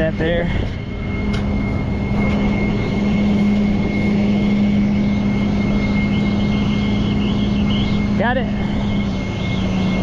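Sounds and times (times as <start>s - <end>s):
low hum with high whine: 0.0s - 10.0s.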